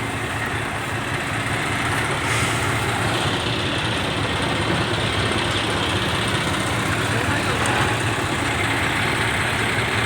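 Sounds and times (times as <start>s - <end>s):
heavy diesel engine droning: 0.0s - 10.0s.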